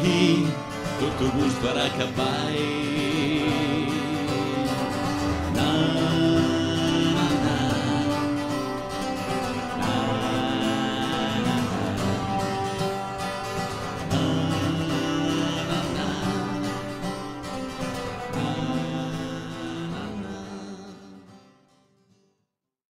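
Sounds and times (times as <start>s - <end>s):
acoustic guitar chords: 0.0s - 22.3s.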